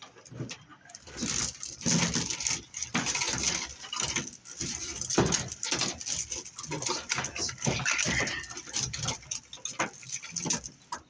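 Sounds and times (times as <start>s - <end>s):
metal cable rattling and scraping: 0.0s - 11.0s.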